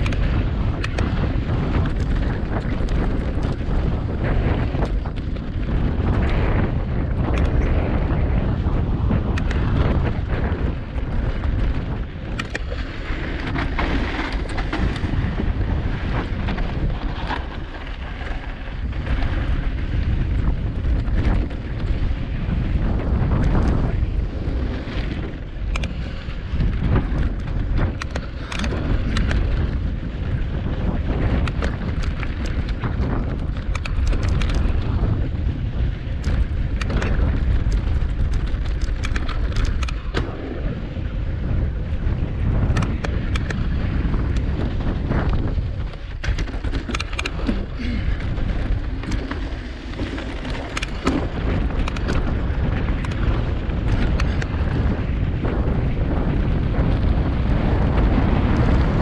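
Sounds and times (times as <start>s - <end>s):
bike clicks and rattles: 0.0s - 59.0s
tyres over dirt and stones: 0.0s - 59.0s
wind buffeting microphone: 0.0s - 59.0s.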